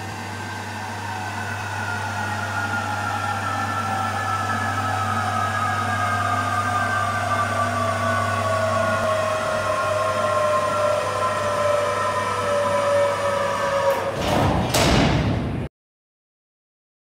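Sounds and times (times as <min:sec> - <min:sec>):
low motor hum: 0:00.0 - 0:15.7.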